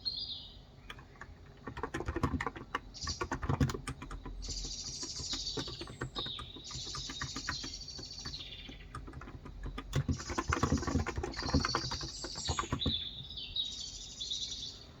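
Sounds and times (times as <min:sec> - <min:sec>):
small birds chirping: 0:00.0 - 0:15.0
keyboard typing: 0:00.9 - 0:13.2.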